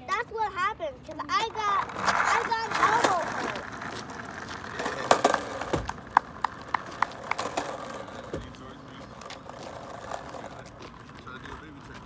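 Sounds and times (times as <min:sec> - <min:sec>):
skateboard rolling over pavement: 0:00.1 - 0:12.0
sharp skateboard clacks: 0:01.1 - 0:12.0.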